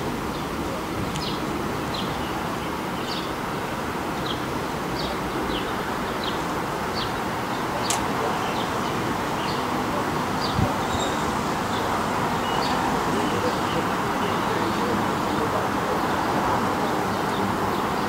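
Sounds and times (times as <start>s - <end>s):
outdoor hiss and rumble: 0.0s - 18.0s.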